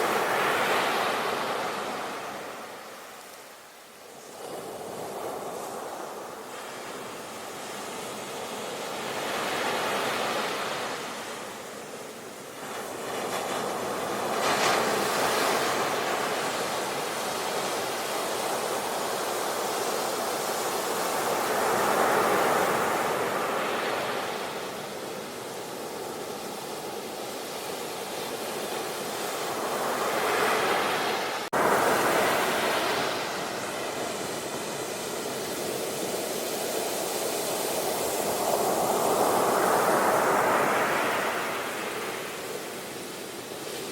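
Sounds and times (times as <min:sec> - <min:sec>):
ocean waves washing on beach: 0:00.0 - 0:43.9.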